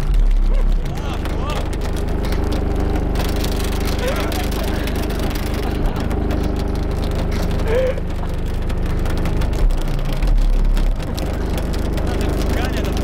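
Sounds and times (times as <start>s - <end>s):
crackling noise: 0.0s - 13.0s
deep bass music from subwoofers: 0.0s - 13.0s.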